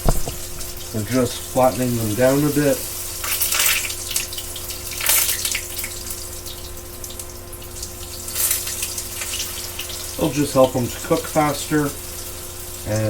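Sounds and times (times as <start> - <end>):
latkes sizzling in hot oil: 0.0 - 13.0.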